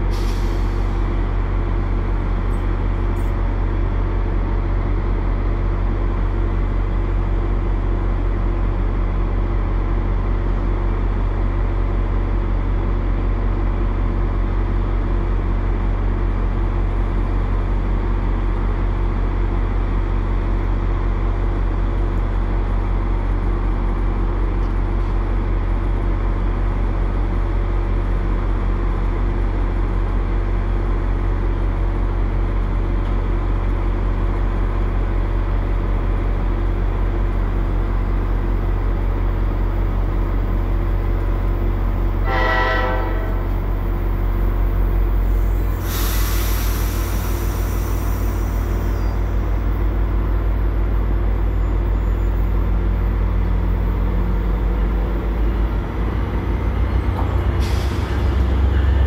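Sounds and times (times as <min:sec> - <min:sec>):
idling train deep hum: 0:00.0 - 0:59.0.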